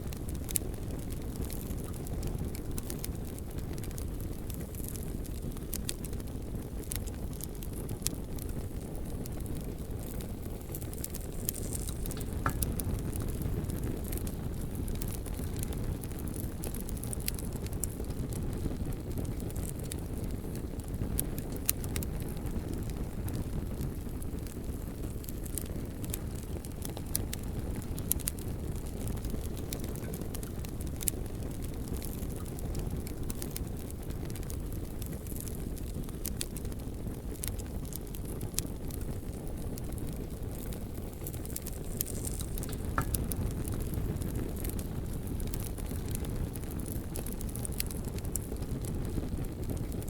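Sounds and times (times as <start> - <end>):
bonfire rumbling: 0.0 - 50.0
wood crackling and popping: 0.0 - 50.0.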